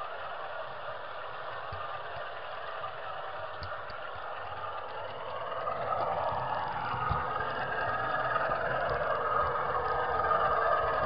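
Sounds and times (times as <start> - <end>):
model locomotive motor: 0.0 - 11.0
model train wheels rattling: 0.1 - 11.0.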